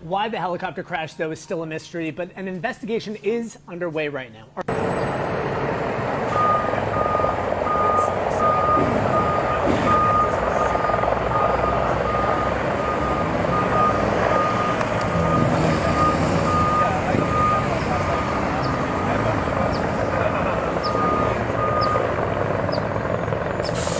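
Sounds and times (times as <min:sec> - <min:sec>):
engine running: 0:04.6 - 0:23.9
street noise: 0:04.6 - 0:23.9
reversing alarm beeping: 0:04.7 - 0:23.9.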